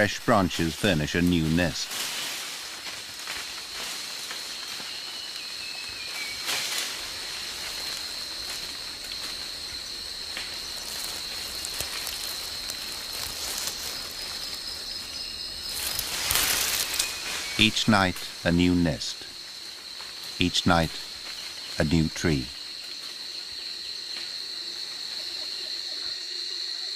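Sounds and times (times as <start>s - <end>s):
leafy branches rustling: 0.0s - 25.5s
forest noise hiss: 0.0s - 26.9s
high-pitched insect drone: 0.0s - 26.9s.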